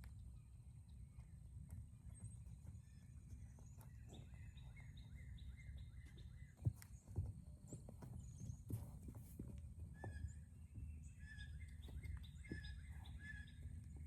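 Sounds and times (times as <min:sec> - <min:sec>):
birds chirping: 0:00.1 - 0:09.1, 0:09.8 - 0:14.0
horse hooves thudding: 0:01.6 - 0:14.0.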